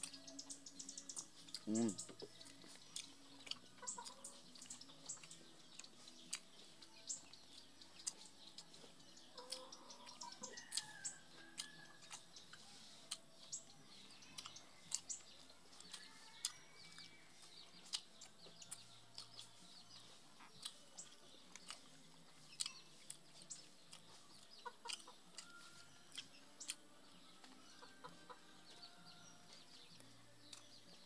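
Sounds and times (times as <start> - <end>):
mouth chewing food: 0.0 - 31.0.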